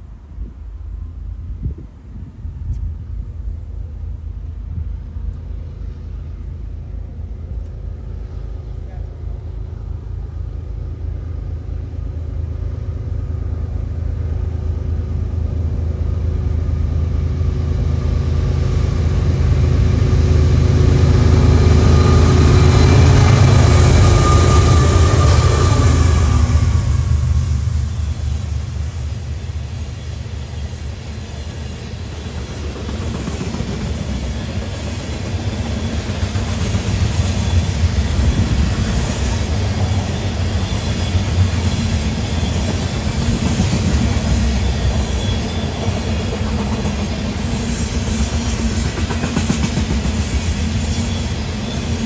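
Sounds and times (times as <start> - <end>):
diesel locomotive engine drone: 0.0 - 52.0
rail cars rumbling on rails: 0.0 - 52.0.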